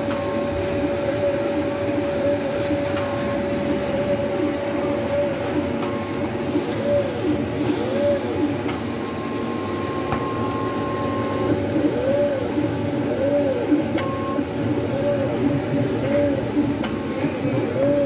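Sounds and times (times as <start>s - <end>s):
cutting plotter motors whining: 0.0s - 18.0s.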